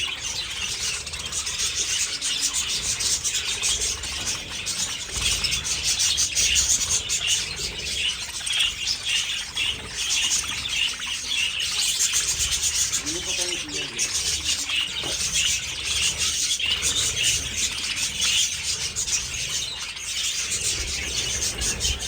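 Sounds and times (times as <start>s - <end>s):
budgerigars chattering and chirping: 0.0s - 22.0s.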